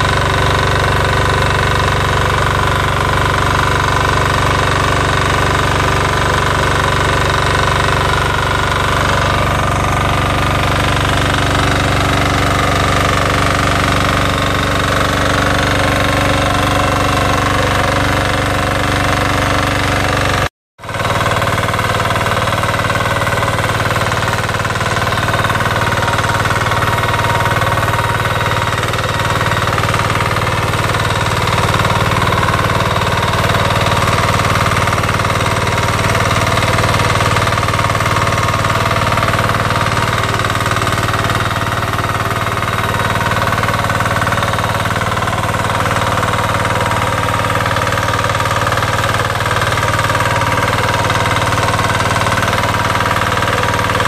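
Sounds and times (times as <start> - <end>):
diesel tiller engine running: 0.0 - 54.0.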